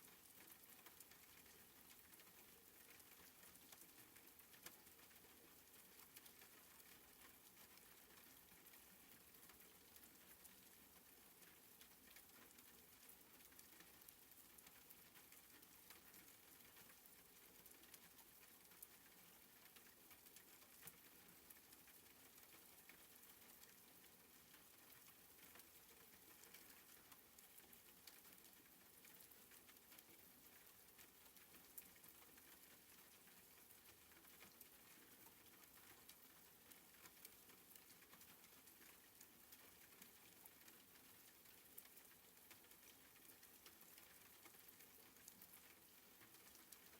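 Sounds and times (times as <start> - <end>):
soft rain pattering: 0.0 - 46.9.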